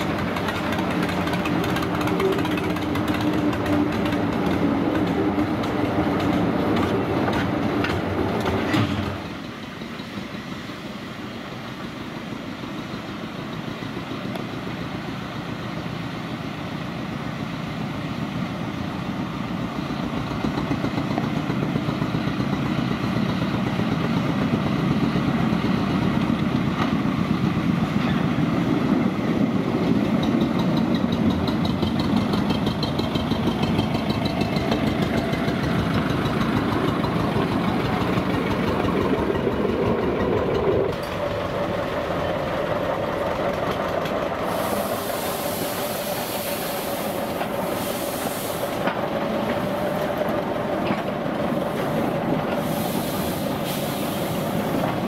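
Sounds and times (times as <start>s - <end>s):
diesel locomotive approaching: 0.0s - 55.0s
diesel locomotive running: 0.0s - 55.0s.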